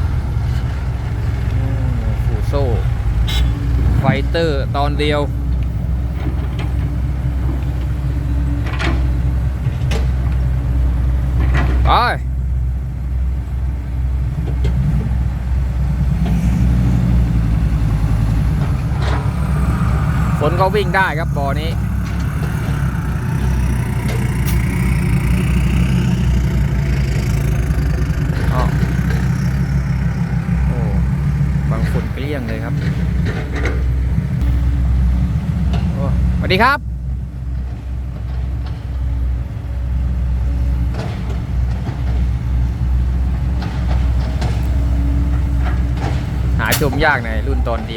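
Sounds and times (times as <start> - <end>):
diesel truck engine idling: 0.0 - 47.9.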